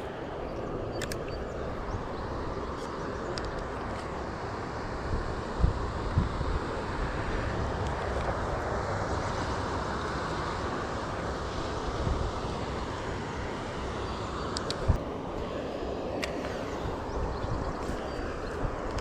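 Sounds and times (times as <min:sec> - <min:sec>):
water rushing: 0:00.0 - 0:19.0
wind buffeting microphone: 0:00.0 - 0:19.0.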